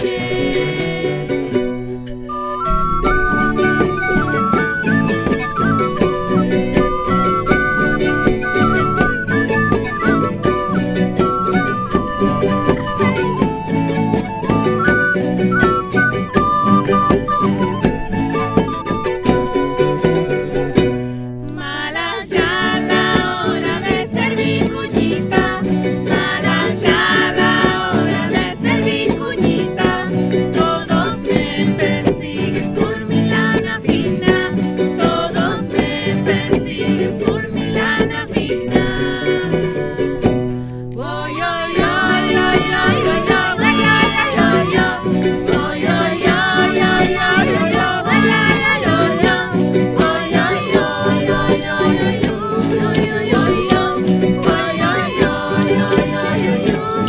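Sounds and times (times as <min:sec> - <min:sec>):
strummed charango and guitars: 0:00.0 - 0:57.0
women singing folk song: 0:00.0 - 0:57.0.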